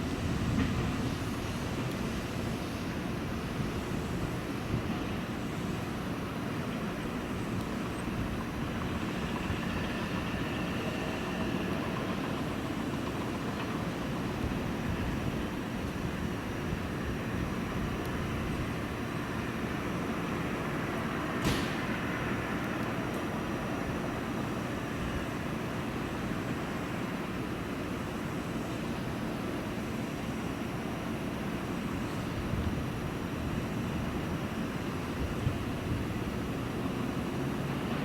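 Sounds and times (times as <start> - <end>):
electric train rumbling: 0.0 - 38.0.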